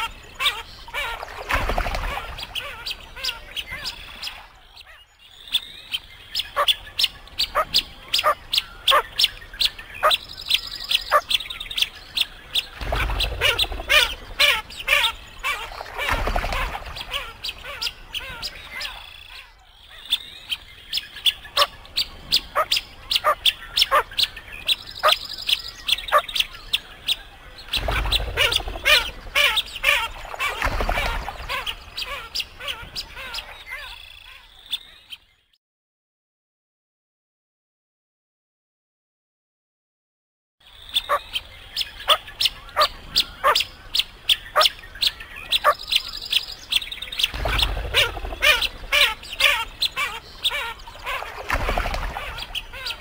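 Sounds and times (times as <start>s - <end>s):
birds chirping: 0.0s - 35.6s, 40.6s - 53.0s.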